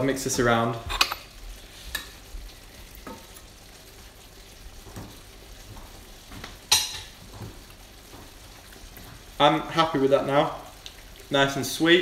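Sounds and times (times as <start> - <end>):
sauce bubbling and sizzling: 0.0 - 12.0.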